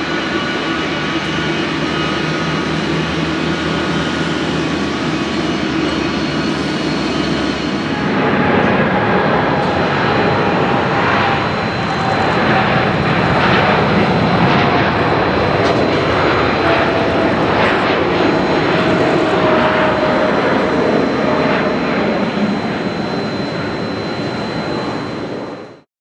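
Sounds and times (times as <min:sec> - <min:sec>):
jet engines at takeoff thrust: 0:00.0 - 0:25.9.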